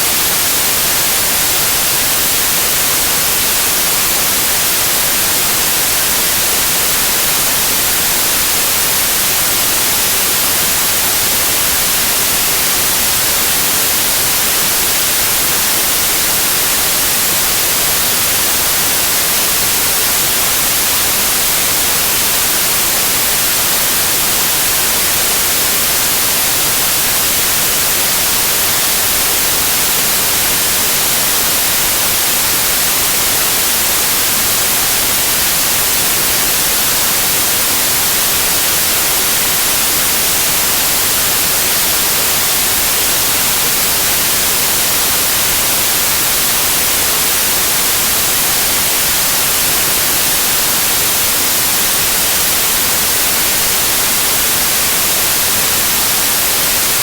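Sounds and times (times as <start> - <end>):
tv static white noise: 0.0 - 57.0.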